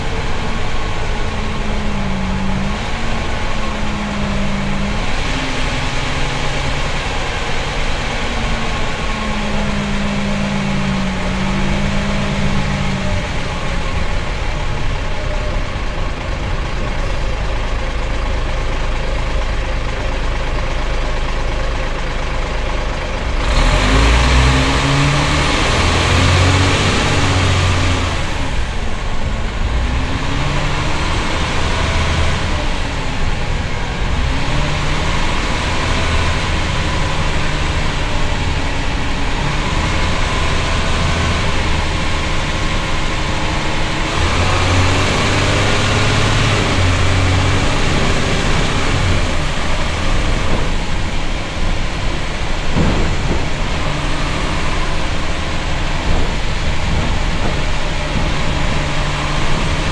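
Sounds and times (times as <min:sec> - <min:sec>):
bus diesel engine: 0:00.0 - 0:59.9
road and body noise: 0:00.0 - 0:59.9.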